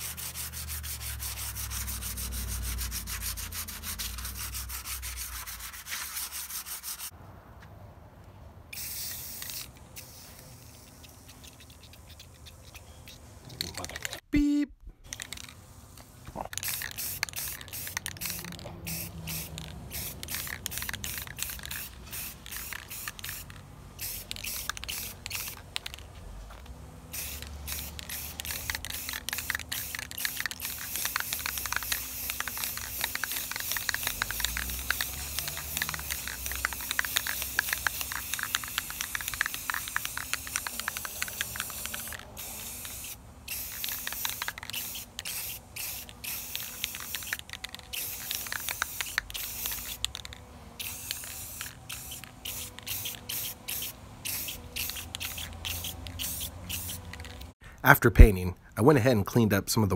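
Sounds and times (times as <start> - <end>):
aerosol spray can hissing: 0.0 - 7.1, 8.7 - 12.8, 16.4 - 26.0, 27.1 - 57.5.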